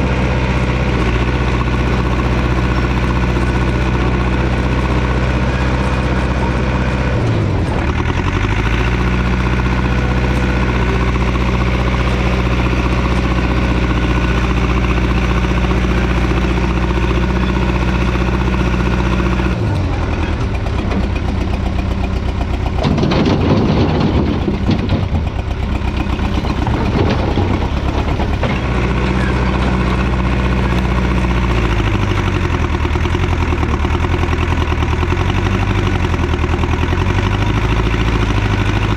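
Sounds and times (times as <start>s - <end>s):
track loader engine running: 0.0s - 38.9s
loud clattering and rattling: 0.5s - 38.9s.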